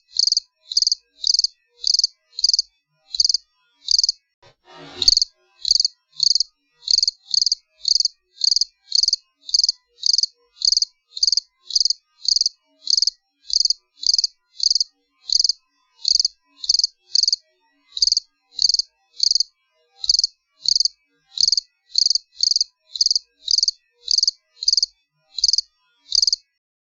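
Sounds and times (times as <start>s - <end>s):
cricket chirping: 0.0s - 4.2s, 5.1s - 17.4s, 18.0s - 26.4s.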